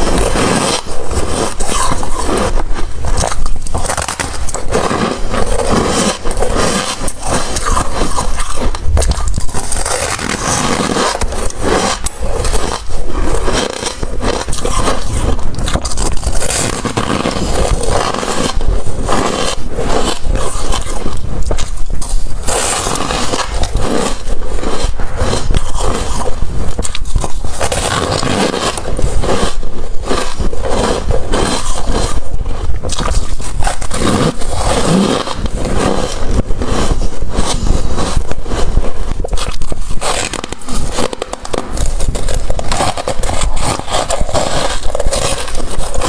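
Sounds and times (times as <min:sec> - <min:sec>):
ice crunching and cracking: 0:00.0 - 0:46.0.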